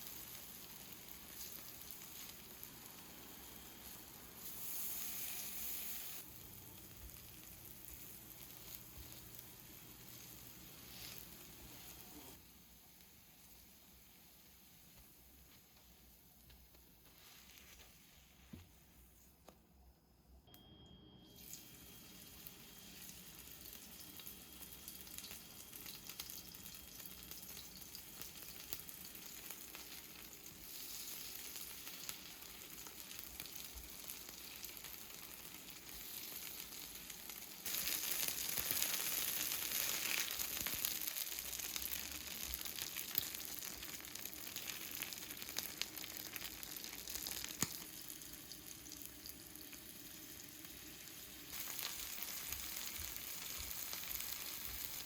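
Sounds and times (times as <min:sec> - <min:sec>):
batter sizzling in hot oil: 0:00.0 - 0:18.6, 0:21.2 - 0:55.0.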